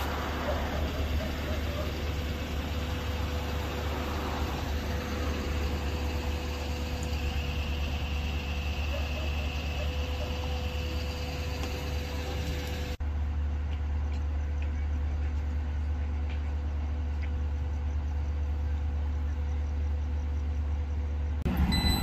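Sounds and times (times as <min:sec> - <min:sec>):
vehicle engines idling: 0:00.0 - 0:22.0.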